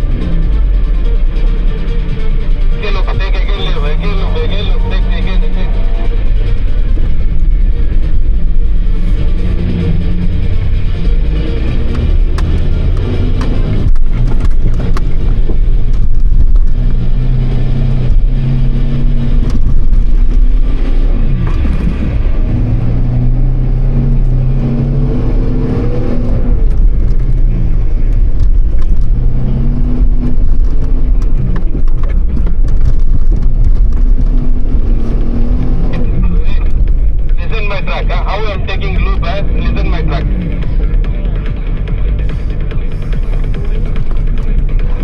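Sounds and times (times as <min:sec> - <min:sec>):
engine revving off-road: 0:00.0 - 0:45.0.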